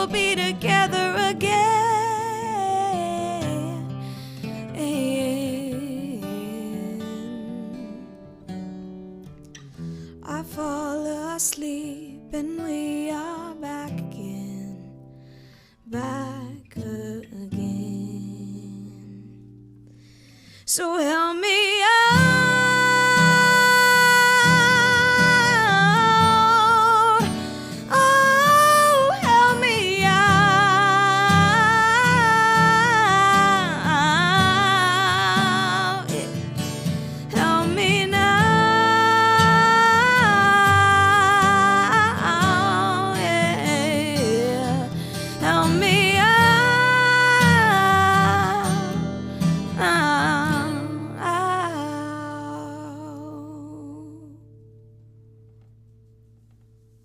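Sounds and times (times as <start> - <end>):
woman singing with vibrato: 0.0 - 4.0, 4.6 - 8.2, 10.3 - 14.9, 15.9 - 19.3, 20.7 - 54.5
strummed acoustic guitar: 0.0 - 21.2, 21.8 - 57.0.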